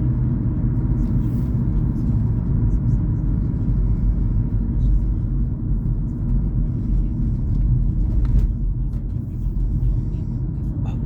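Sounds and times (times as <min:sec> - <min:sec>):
car tyre and engine rumble: 0:00.0 - 0:11.0.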